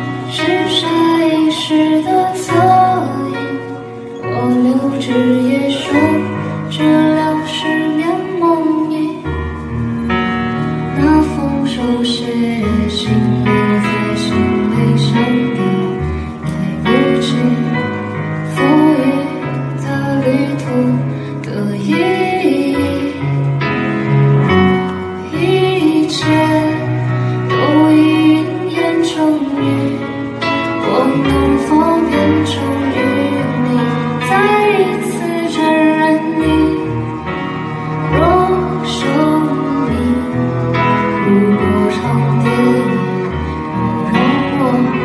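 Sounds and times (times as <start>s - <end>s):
violin: 0.0s - 45.0s
woman singing: 0.0s - 45.0s.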